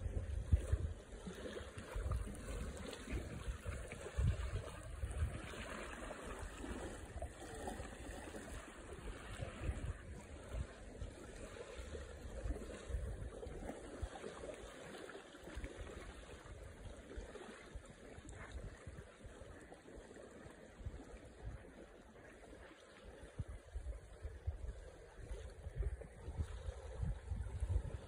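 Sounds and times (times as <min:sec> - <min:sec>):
lake waves lapping on shore: 0:00.0 - 0:28.0
wind rumble on microphone: 0:00.0 - 0:28.0.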